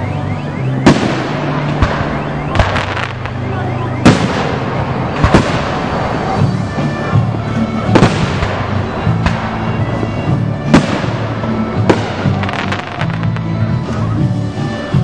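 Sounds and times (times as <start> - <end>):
fireworks bursting: 0.0 - 15.0
music playing: 0.0 - 15.0.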